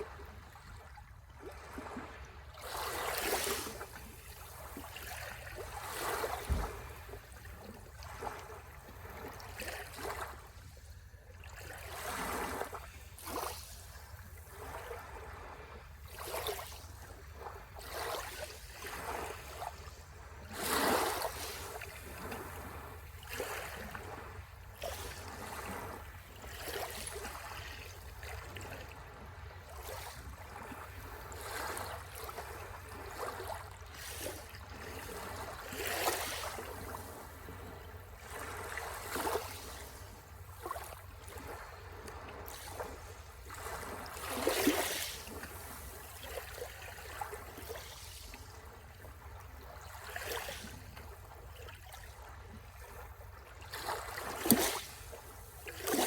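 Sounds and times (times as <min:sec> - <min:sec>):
small waves lapping shore: 0:00.0 - 0:56.0.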